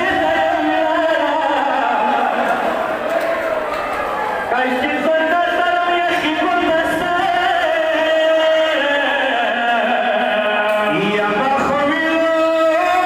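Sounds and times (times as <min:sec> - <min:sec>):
man chanting: 0:00.0 - 0:02.7, 0:04.5 - 0:13.0.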